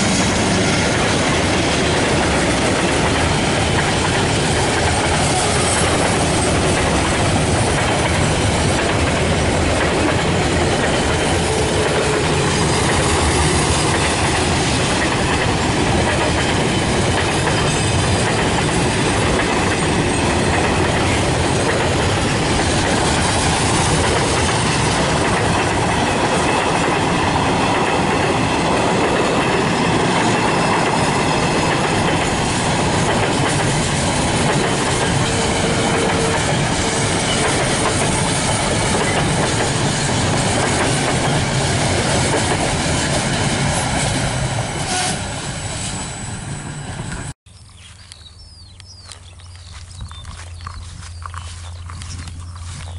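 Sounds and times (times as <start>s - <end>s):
freight train wheels on rails: 0.0s - 52.9s.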